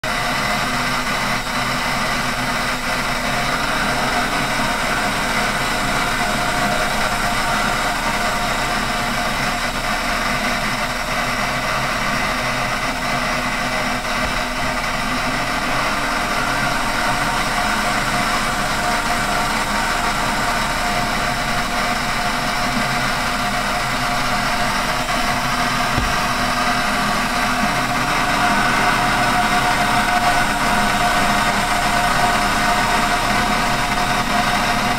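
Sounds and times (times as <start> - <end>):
lathe motor whining: 0.1 - 34.9.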